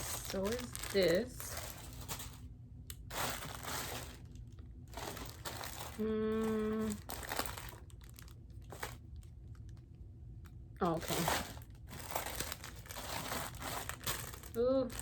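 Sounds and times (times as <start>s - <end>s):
plastic packaging crinkling: 0.0s - 9.9s, 10.8s - 15.0s
steady pitched hum: 0.0s - 15.0s.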